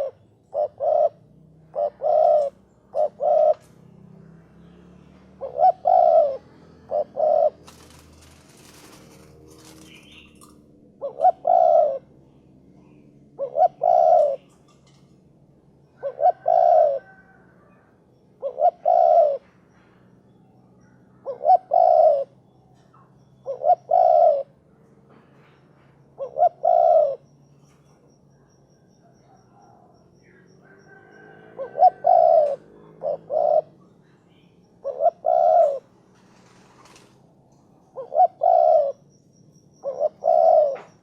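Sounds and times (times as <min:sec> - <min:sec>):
dove cooing: 0:00.0 - 0:03.9, 0:05.2 - 0:15.0, 0:15.8 - 0:19.9, 0:20.8 - 0:27.3, 0:28.7 - 0:41.0.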